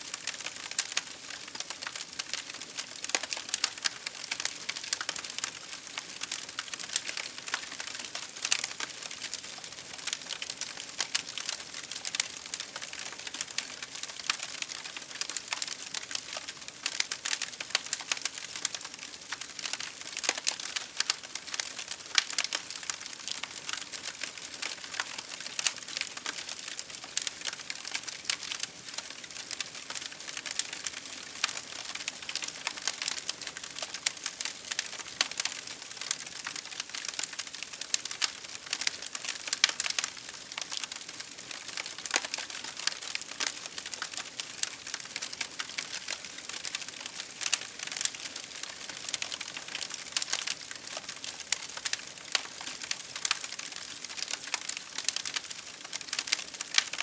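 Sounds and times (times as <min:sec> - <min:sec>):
soft steady hiss: 0:00.0 - 0:57.0
fire crackling: 0:00.3 - 0:57.0.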